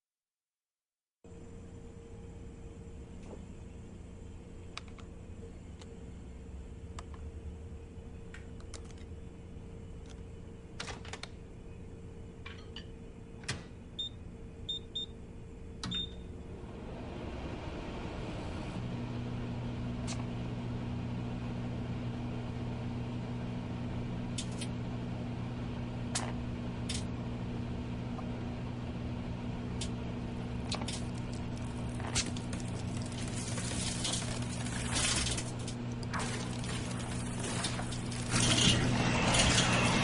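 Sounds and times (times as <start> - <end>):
microwave hum and fan: 1.3 - 40.0.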